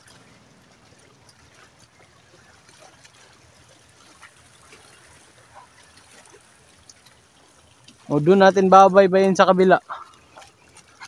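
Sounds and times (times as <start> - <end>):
small waves lapping: 0.0 - 11.0.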